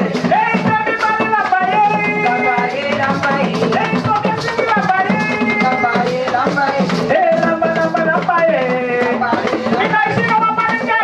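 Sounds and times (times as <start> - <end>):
upbeat dance music with singing: 0.0 - 11.0.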